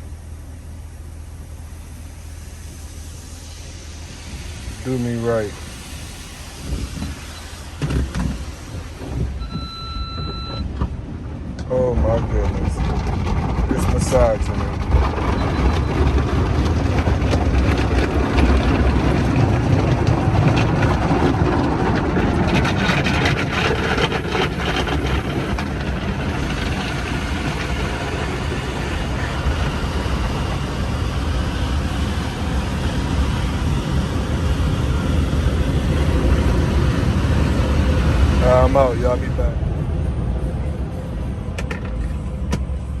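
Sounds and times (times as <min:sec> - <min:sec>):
car cabin road and engine rumble: 0:00.0 - 0:43.0.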